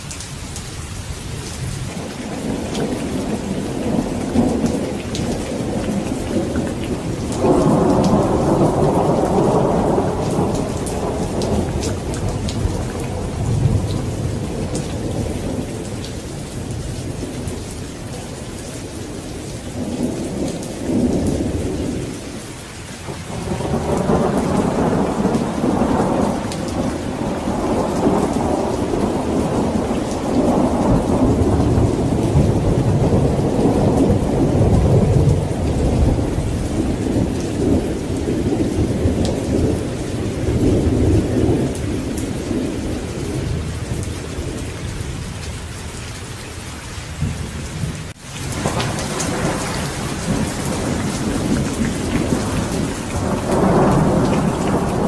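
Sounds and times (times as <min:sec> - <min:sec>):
steady rain: 0:00.0 - 0:55.0
rolling thunder: 0:01.3 - 0:22.3, 0:23.1 - 0:45.5, 0:47.1 - 0:55.0.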